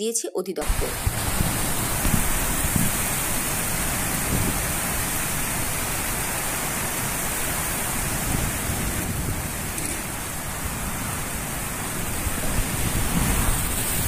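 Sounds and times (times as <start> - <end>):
heavy rain falling: 0.6 - 14.0.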